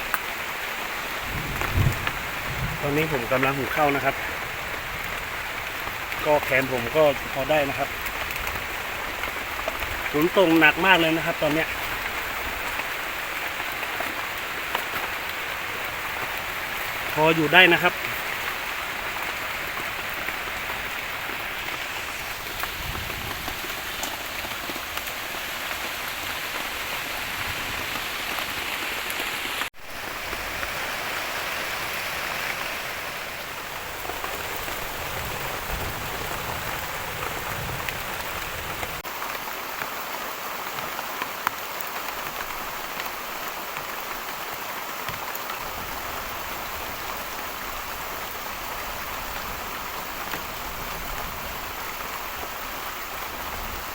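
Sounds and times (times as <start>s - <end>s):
heavy rain on leaves: 0.0s - 53.9s.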